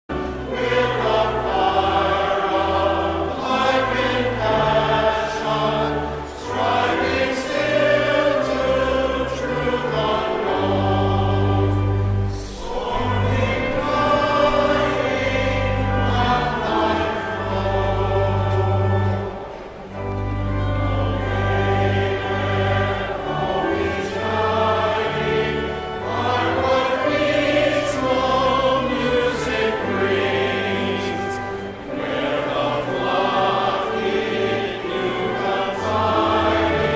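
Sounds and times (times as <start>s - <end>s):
choir singing sacred music: 0.1s - 36.9s.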